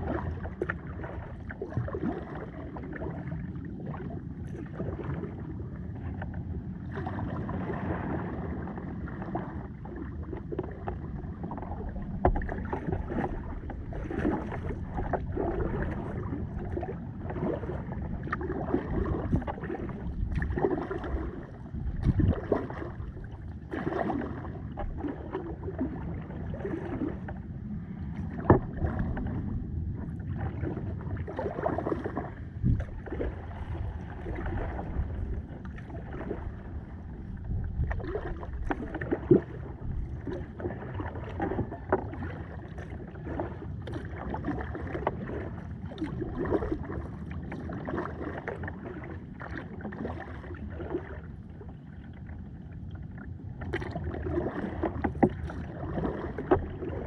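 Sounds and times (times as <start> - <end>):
low wash of water: 0.0 - 57.0
paddle strokes splashing: 0.0 - 57.0.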